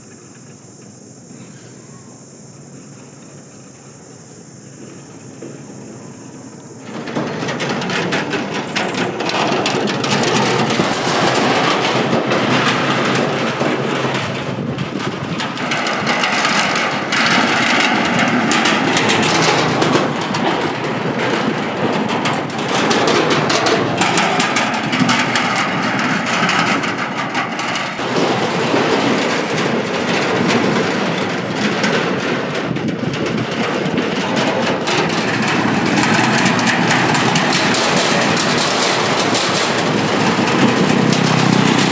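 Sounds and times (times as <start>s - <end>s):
bridge deck clattering under motorcycles: 0.0s - 41.9s.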